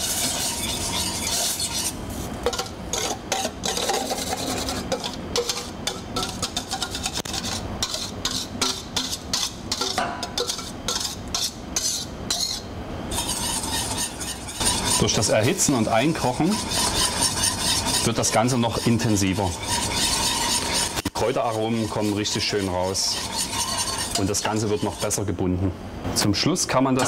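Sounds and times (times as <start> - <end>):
utensil scraping a steel bowl: 0.0 - 25.4.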